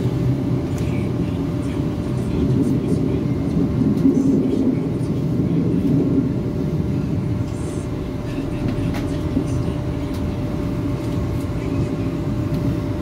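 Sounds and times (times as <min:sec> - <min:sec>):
faint steady whine: 0:00.0 - 0:13.0
train low rumble: 0:00.0 - 0:13.0.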